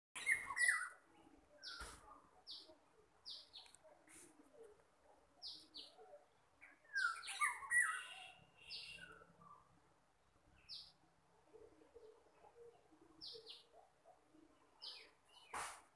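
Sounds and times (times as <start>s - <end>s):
small birds chirping: 0.2s - 15.9s.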